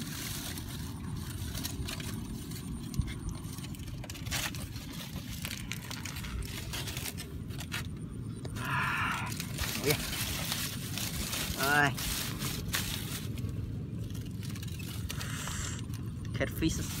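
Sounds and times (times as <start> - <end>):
aluminium foil crinkling: 0.0 - 17.0
steady low rumble: 0.0 - 17.0.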